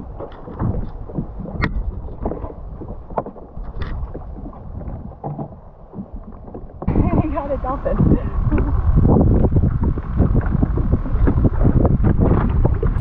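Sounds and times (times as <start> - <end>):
water against hull: 0.0 - 13.0
wind buffeting microphone: 0.0 - 13.0.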